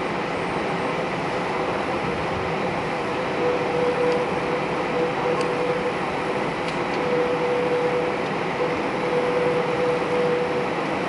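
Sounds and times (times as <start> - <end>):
aircraft cabin engine rush: 0.0 - 11.0
engine whine: 0.0 - 11.0.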